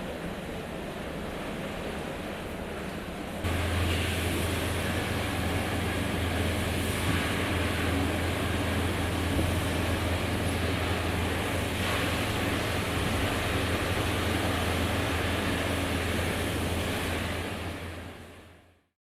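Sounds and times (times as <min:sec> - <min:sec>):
steady rushing noise: 0:00.0 - 0:18.6
ship engines hum: 0:00.0 - 0:18.9.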